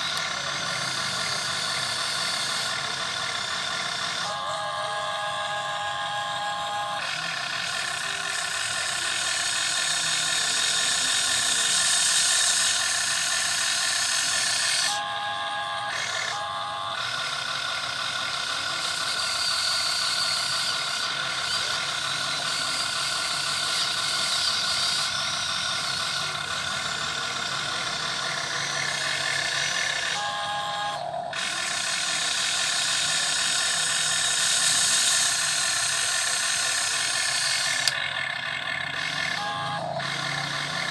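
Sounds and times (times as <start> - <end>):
model excavator motors whining: 0.0 - 40.9.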